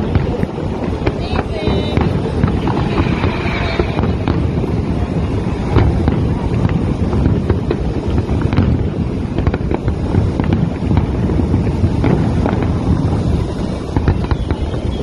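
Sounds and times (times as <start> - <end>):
fireworks popping and banging: 0.0 - 15.0
wind rumble on microphone: 0.0 - 15.0.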